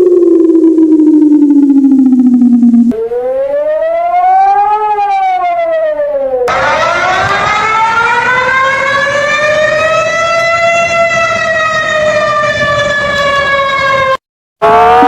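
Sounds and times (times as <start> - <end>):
warning siren wailing: 0.0 - 15.0.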